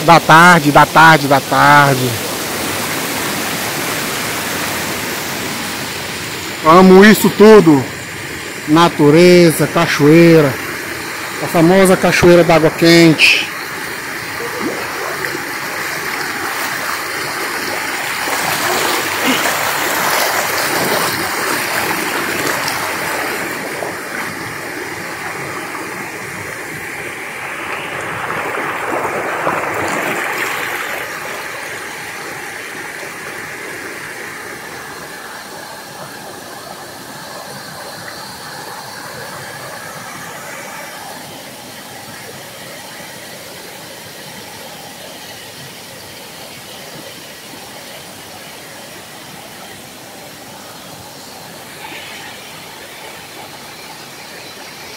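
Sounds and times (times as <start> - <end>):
water rushing over rocks: 0.0 - 54.9.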